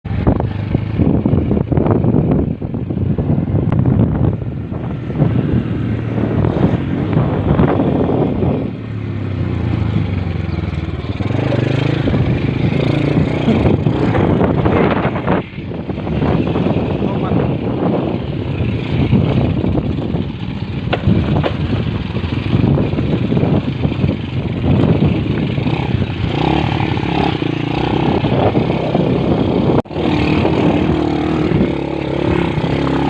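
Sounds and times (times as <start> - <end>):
engine running with rough rumble: 0.0 - 33.0.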